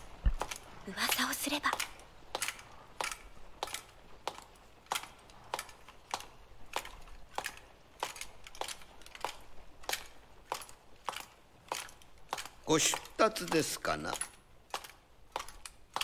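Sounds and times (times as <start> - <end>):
boot footsteps on stone floor: 0.0 - 0.9, 1.6 - 16.0.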